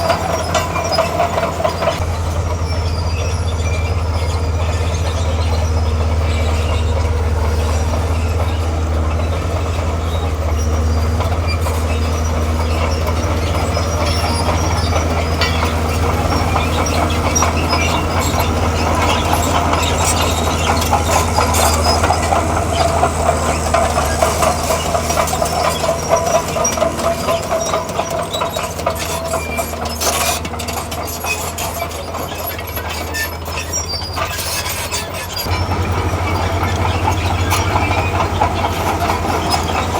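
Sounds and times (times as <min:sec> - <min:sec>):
diesel engine running: 0:00.0 - 0:39.9
steel tracks clanking and squealing: 0:00.0 - 0:39.9.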